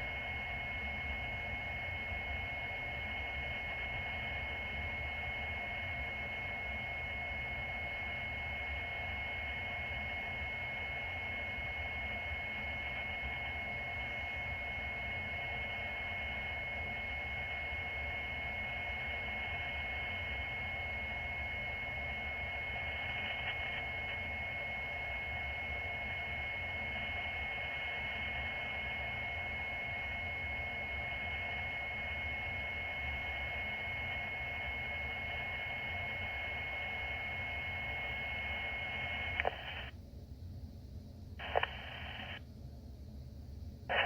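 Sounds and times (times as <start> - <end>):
radio scanner hiss and hum: 0.0 - 40.1, 41.2 - 42.5, 43.2 - 44.0.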